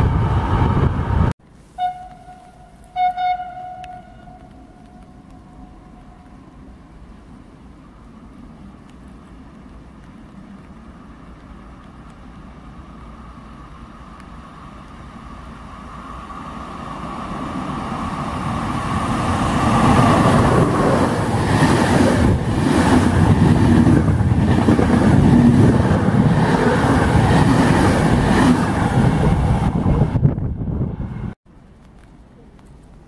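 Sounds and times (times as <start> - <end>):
passenger train rushing past: 0.0 - 31.4
train whine: 0.0 - 31.4.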